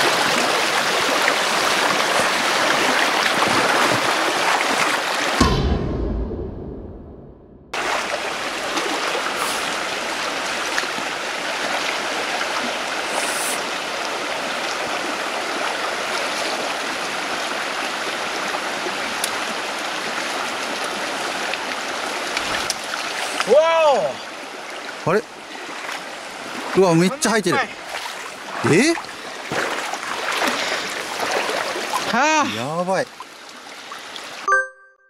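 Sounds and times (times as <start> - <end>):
rocky stream running: 0.0 - 5.4, 7.8 - 34.5.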